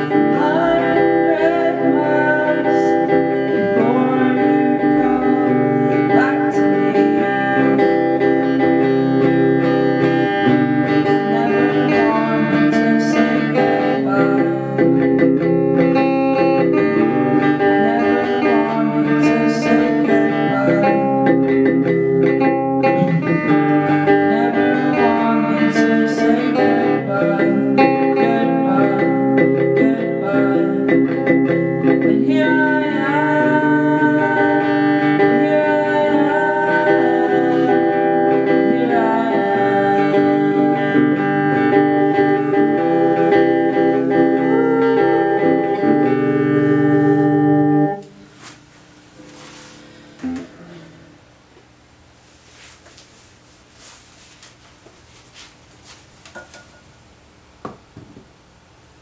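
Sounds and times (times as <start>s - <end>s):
person singing: 0.0s - 48.0s, 50.2s - 51.0s
guitar playing: 0.0s - 48.5s, 49.2s - 51.3s.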